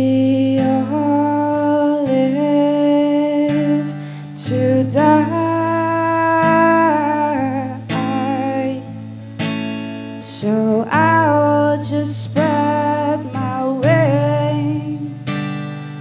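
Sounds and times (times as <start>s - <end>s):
woman singing: 0.0s - 9.2s, 10.0s - 15.8s
strummed acoustic guitar: 0.0s - 16.0s.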